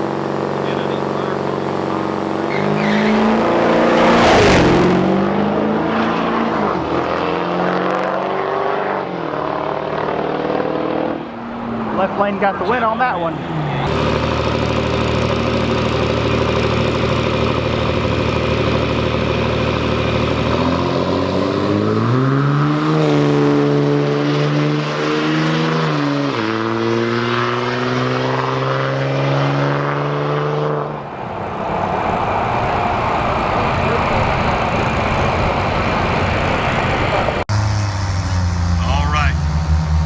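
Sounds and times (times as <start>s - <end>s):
diesel truck engine revving: 0.0s - 40.0s.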